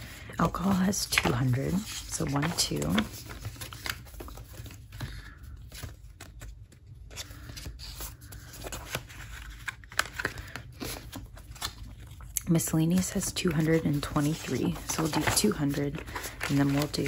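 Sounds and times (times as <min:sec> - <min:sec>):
paper rustling and sliding: 0:00.0 - 0:11.8, 0:13.4 - 0:17.0.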